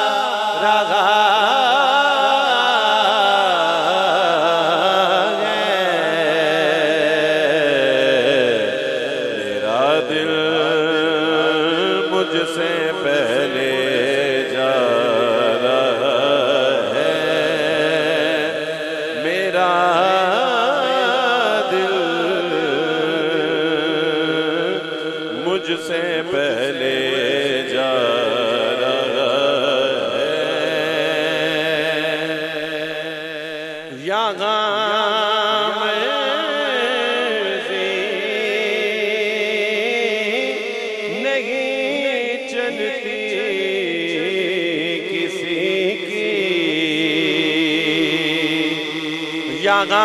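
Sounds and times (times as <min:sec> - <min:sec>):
man singing through microphone: 0:00.0 - 0:50.0.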